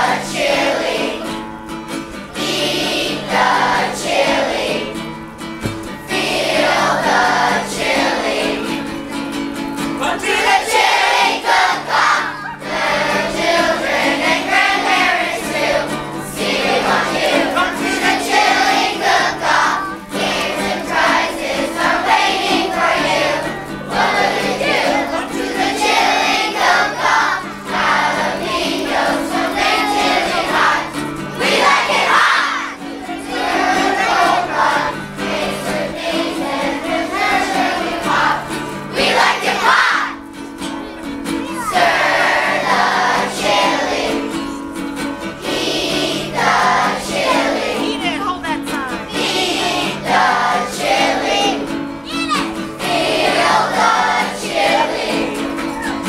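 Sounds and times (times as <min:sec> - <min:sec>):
song with singing voices: 0:00.0 - 0:56.0.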